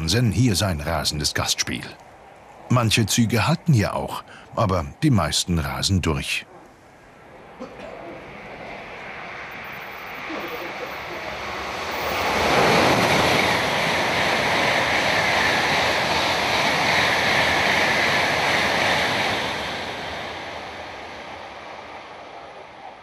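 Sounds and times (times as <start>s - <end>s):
high-speed train rushing past: 0.0s - 23.0s.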